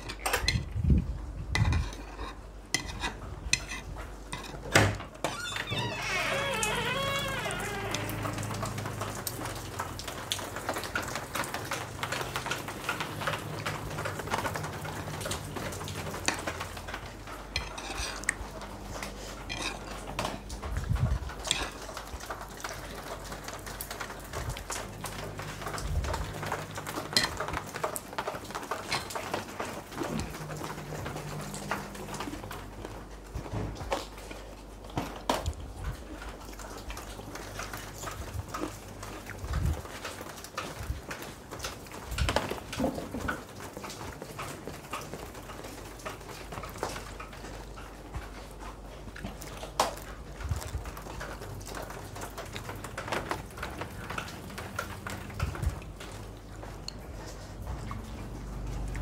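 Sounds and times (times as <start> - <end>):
rain falling: 2.4 - 59.0.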